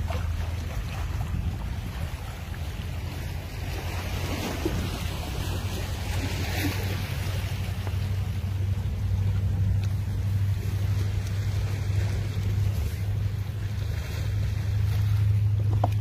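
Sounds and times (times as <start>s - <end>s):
faint sea waves: 0.0s - 16.0s
low rumble: 0.0s - 16.0s.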